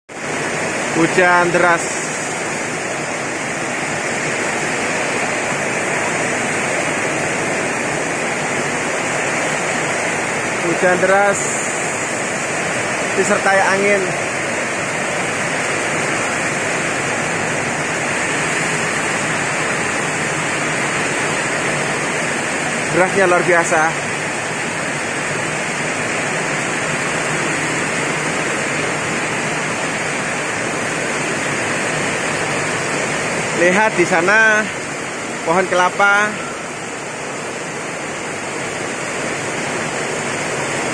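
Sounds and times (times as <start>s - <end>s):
heavy rain pouring: 0.1s - 40.9s.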